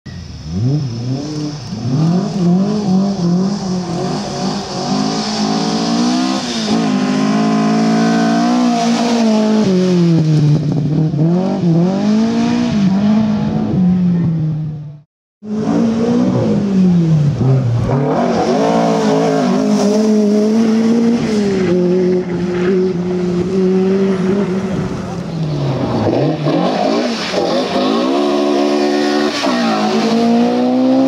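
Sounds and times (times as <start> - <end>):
rally car engine revving: 0.3 - 31.0.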